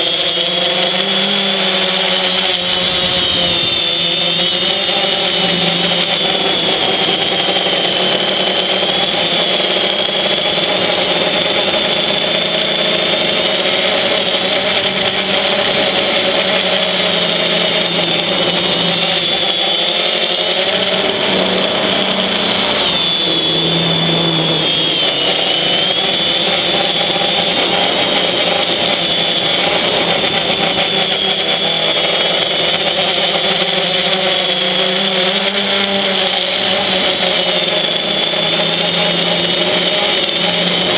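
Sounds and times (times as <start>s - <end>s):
quadcopter propellers whirring: 0.0s - 40.9s.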